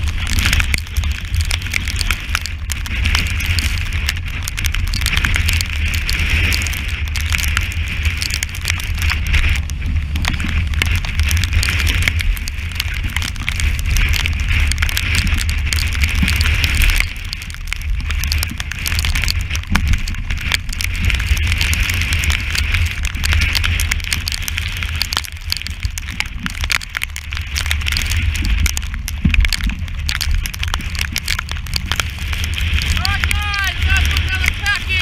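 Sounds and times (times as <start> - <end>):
strong wind buffeting microphone: 0.0 - 35.0.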